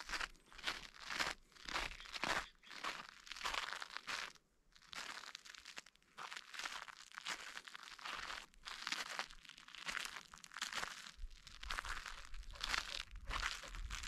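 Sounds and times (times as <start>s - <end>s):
footsteps crunching on snow: 0.0s - 14.0s.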